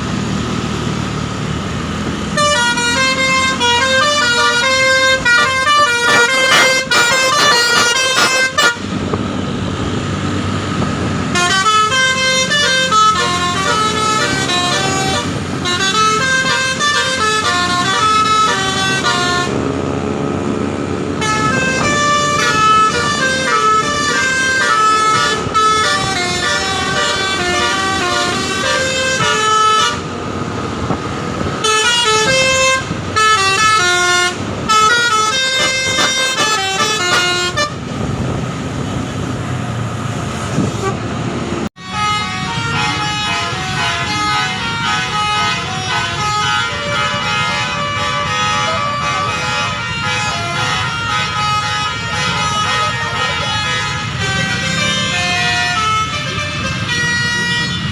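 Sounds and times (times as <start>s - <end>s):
engine rumble: 0.0s - 57.9s
bus musical horn tune: 2.3s - 9.1s, 11.2s - 19.7s, 21.1s - 30.2s, 31.4s - 38.0s, 40.7s - 41.0s, 41.8s - 57.9s.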